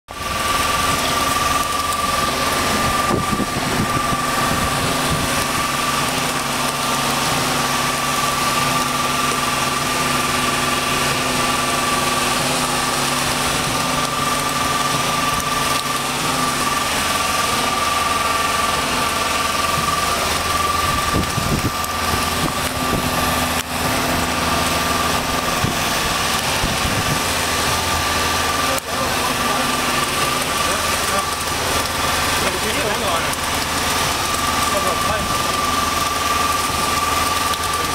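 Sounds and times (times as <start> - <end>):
high whine: 0.1 - 37.9
pump engine running: 0.1 - 37.9.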